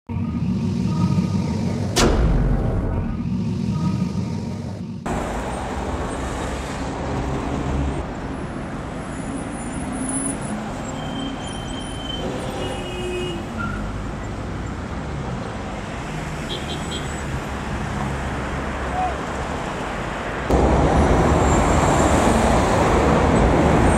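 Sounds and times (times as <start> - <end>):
city street traffic: 0.1 - 23.9.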